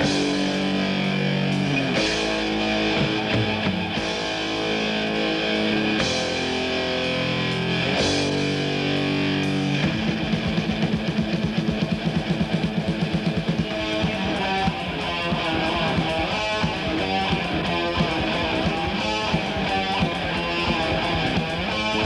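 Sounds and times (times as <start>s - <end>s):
heavy metal distorted guitars: 0.0s - 22.0s.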